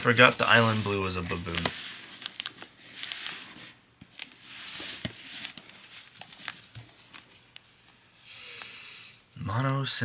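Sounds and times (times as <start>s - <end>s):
soft handling rustle: 0.0s - 8.3s.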